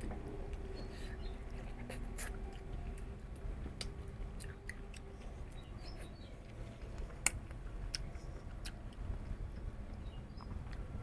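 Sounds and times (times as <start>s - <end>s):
person chewing meat: 0.0s - 11.0s.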